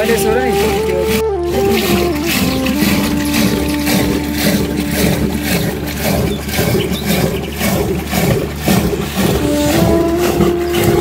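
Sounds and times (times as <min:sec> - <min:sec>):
held flute-like notes: 0:00.0 - 0:07.7, 0:09.2 - 0:11.0
steady beat: 0:00.0 - 0:11.0.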